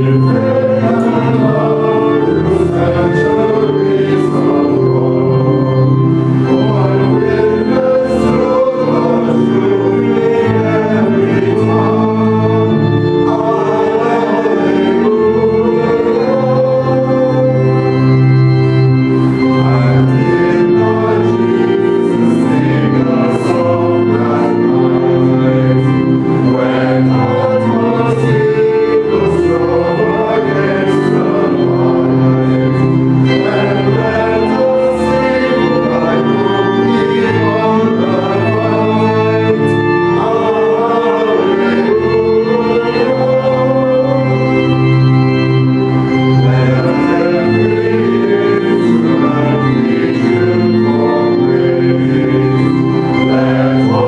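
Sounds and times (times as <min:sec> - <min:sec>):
congregation singing: 0:00.0 - 0:54.0
organ playing held chords: 0:00.0 - 0:54.0.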